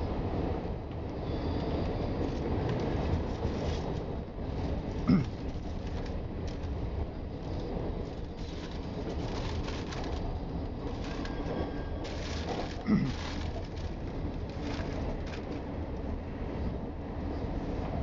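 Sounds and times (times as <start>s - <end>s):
train running on track: 0.0s - 18.0s.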